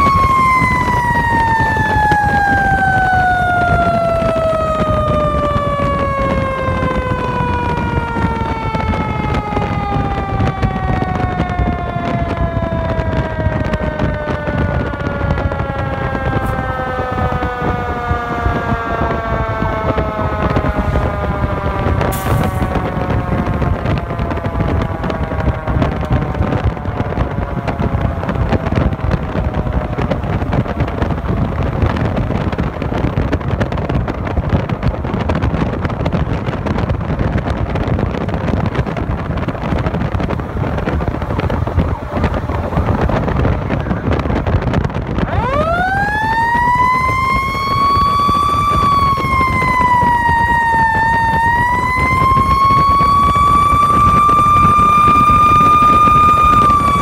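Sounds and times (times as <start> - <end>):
fire engine driving: 0.0 - 57.0
siren wailing: 0.0 - 57.0.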